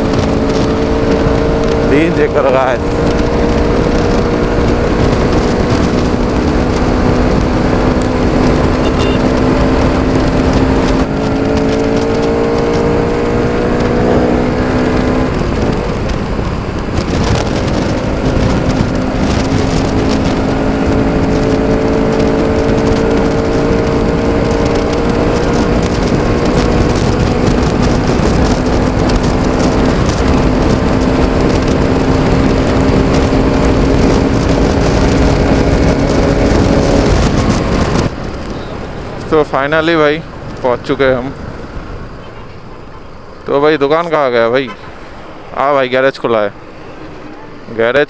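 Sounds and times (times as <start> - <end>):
motorcycle engine cruising: 0.0 - 48.0
wind rush on microphone: 0.0 - 48.0.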